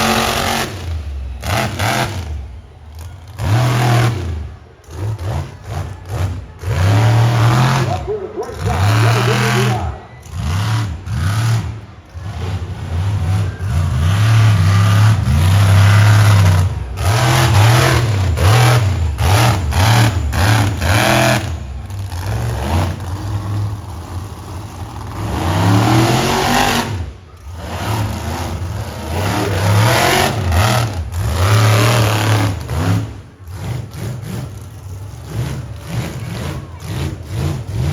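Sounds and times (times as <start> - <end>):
monster truck engine revving: 0.0 - 37.9.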